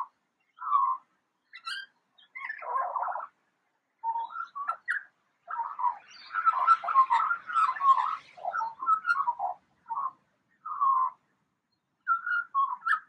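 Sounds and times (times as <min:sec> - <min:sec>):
magpie calls: 0:00.0 - 0:03.3, 0:04.0 - 0:11.2, 0:12.0 - 0:13.0.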